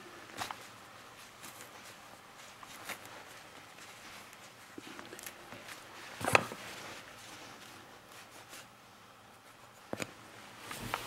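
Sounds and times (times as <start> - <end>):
fur and gloves rustling: 0.0 - 8.9.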